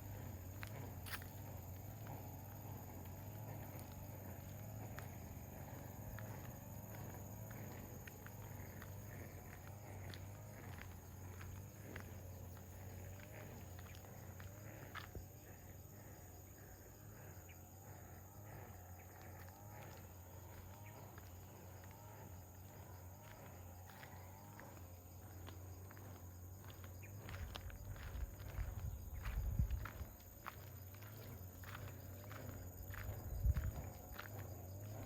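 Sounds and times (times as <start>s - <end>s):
faint footsteps walking outdoors: 0.0s - 35.0s.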